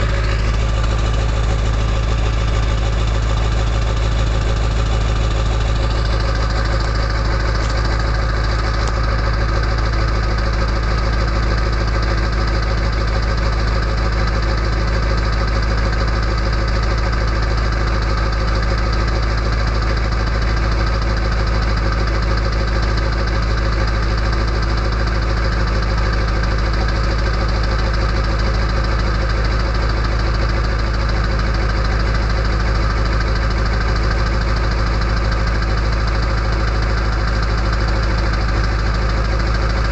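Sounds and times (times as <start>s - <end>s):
turbodiesel truck engine idling: 0.0s - 39.9s.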